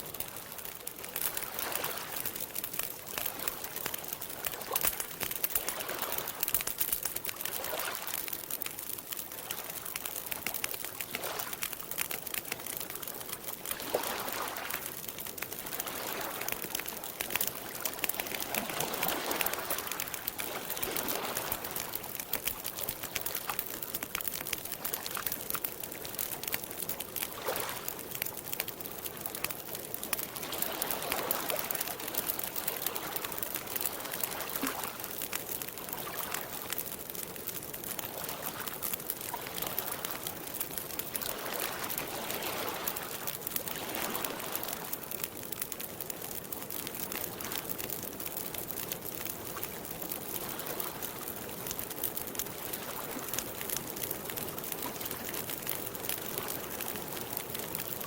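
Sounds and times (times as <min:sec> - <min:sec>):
campfire crackling and popping: 0:00.0 - 0:58.0
water lapping and trickling: 0:00.0 - 0:58.0.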